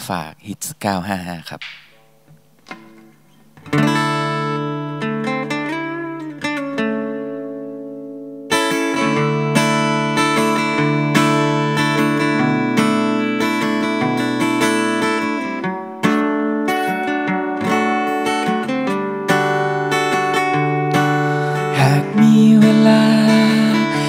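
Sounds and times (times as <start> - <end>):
acoustic guitar playing: 1.6 - 24.0.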